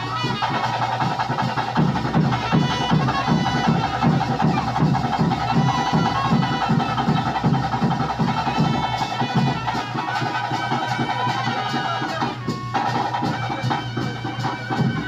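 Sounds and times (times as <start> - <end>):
drumming: 0.0 - 15.0.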